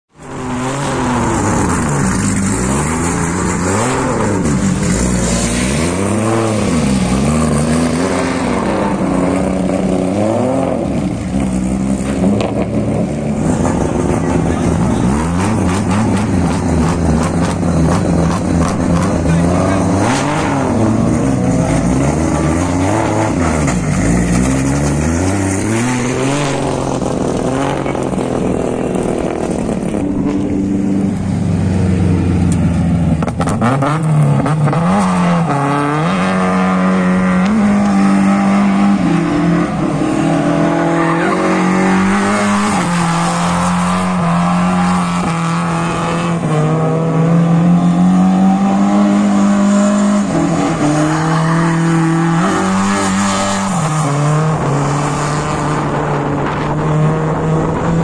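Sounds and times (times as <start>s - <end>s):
car engine revving: 0.1s - 58.0s.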